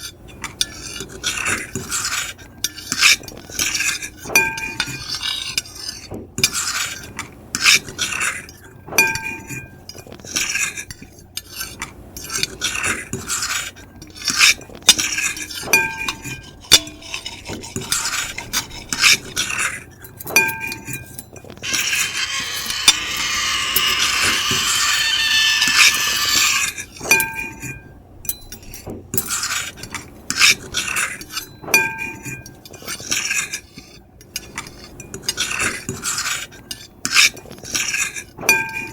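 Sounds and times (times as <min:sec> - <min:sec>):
fork and knife scraping a plate: 0:00.0 - 0:27.8, 0:29.2 - 0:38.9.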